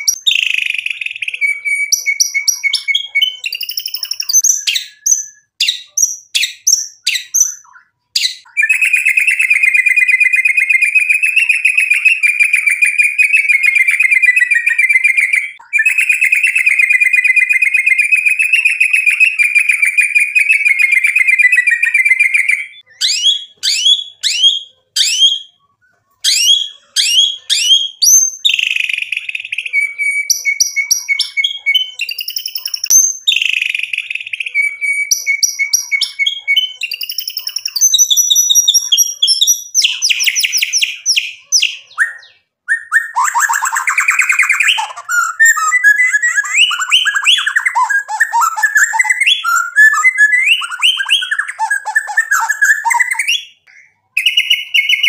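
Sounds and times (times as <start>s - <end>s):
bird singing whistles and trills: 0.0s - 25.6s, 26.2s - 55.0s.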